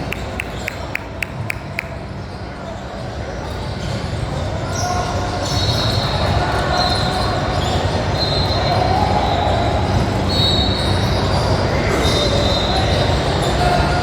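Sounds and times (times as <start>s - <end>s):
echoing din of voices: 0.0s - 14.0s.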